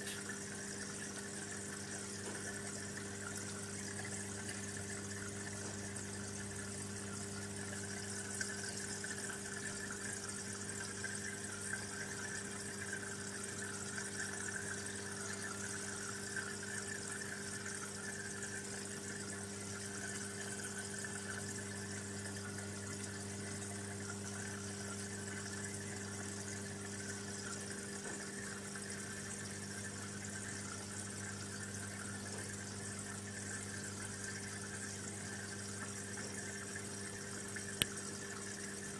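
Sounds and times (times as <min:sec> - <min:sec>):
aquarium pump humming: 0:00.0 - 0:38.9
water trickling: 0:00.0 - 0:38.9.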